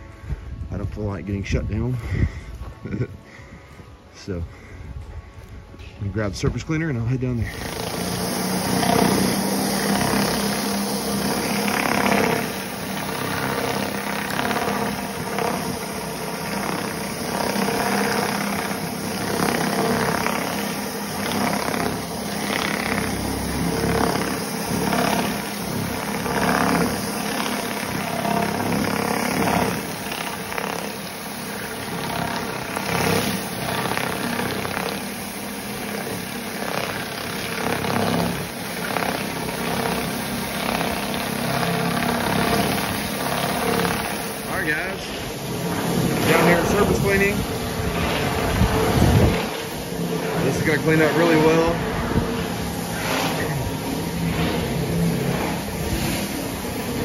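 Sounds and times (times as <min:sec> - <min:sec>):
surface cleaner whirring hiss: 0:07.3 - 0:57.0.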